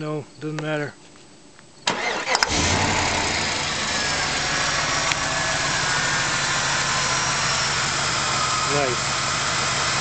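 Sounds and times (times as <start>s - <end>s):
car engine idling: 1.9s - 10.0s.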